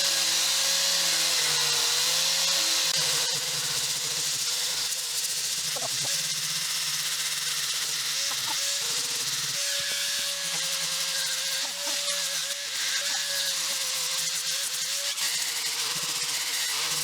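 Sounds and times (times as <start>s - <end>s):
handheld power tool whining: 0.0s - 17.0s.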